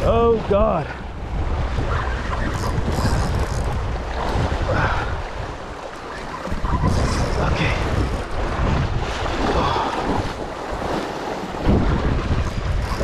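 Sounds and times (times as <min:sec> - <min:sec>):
ocean waves: 0:00.0 - 0:13.0
wind buffeting microphone: 0:00.0 - 0:13.0.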